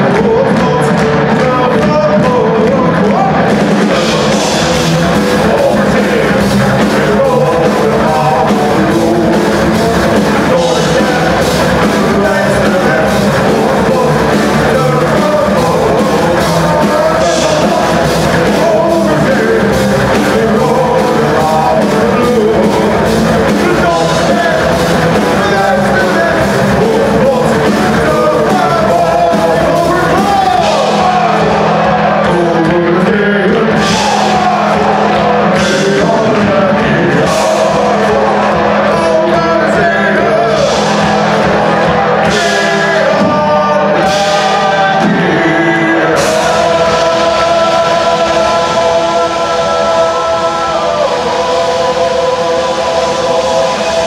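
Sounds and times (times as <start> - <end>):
men singing together: 0.0 - 54.0
metal band playing live: 0.0 - 54.0.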